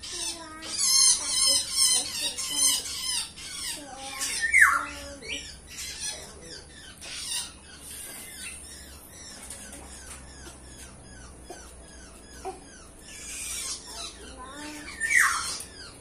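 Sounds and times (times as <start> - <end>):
bird squawk: 0.0 - 16.0
birds chirping: 0.0 - 16.0.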